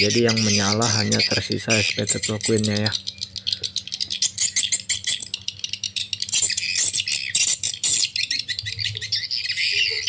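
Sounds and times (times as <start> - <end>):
high twittering bird chirps: 0.0 - 10.0
low electrical hum: 0.0 - 10.0.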